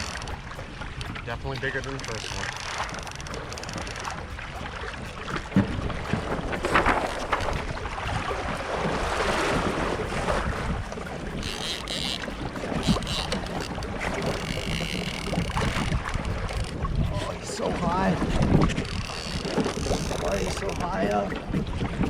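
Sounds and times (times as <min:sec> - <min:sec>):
knocks against hull: 0:00.0 - 0:22.0
water washing around kayak: 0:00.0 - 0:22.0
wind buffeting microphone: 0:00.0 - 0:22.0.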